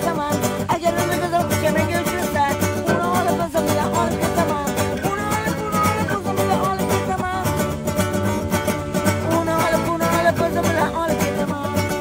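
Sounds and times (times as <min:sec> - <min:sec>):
classical guitar strummed: 0:00.0 - 0:12.0
man singing: 0:00.0 - 0:12.0.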